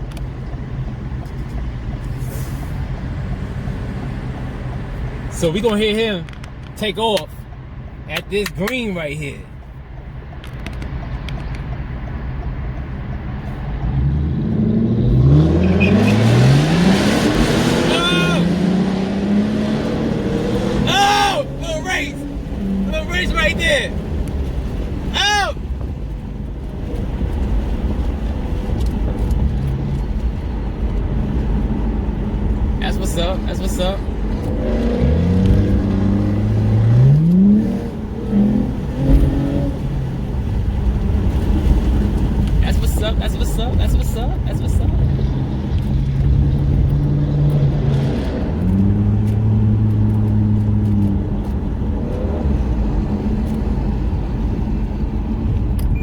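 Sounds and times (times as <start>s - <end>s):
car engine idling and pulling away: 0.0s - 56.0s.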